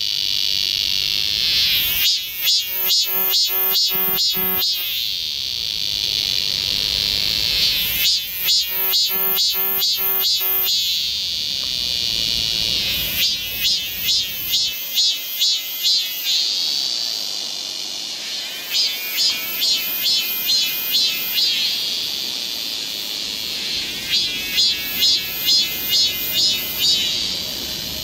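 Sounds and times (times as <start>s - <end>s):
cicadas buzzing: 0.0s - 28.0s
loud pulsed cicada call: 0.0s - 28.0s.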